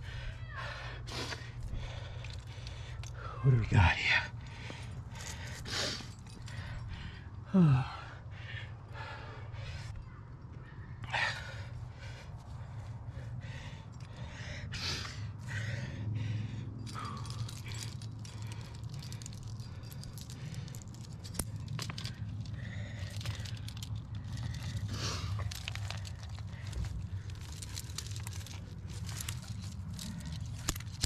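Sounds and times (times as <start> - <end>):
climbing gear clinking and rattling: 0.0 - 31.0
hard breathing: 0.0 - 31.0.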